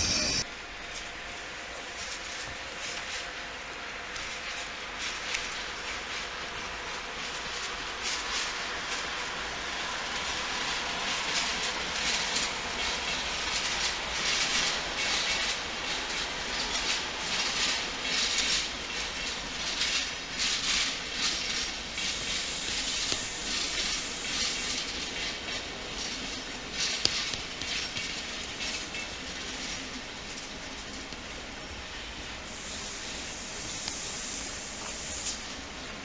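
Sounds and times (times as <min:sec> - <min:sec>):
train wheels on rail: 0:00.0 - 0:36.0.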